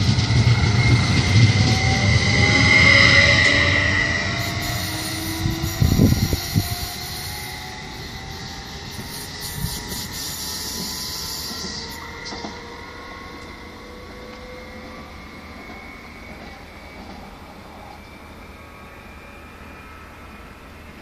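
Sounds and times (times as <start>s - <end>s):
train motor whine: 0.0s - 21.0s.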